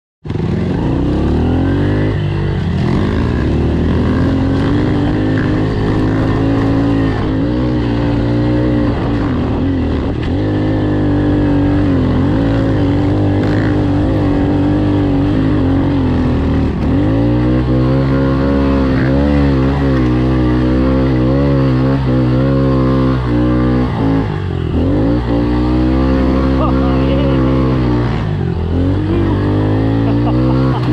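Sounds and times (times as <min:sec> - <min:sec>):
dirt bike engine revving: 0:00.2 - 0:30.9.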